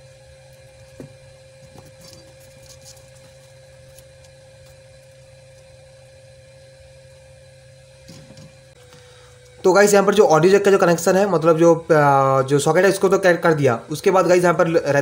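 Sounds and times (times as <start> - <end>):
steady electrical hum: 0.0 - 15.0
thin constant whine: 0.0 - 15.0.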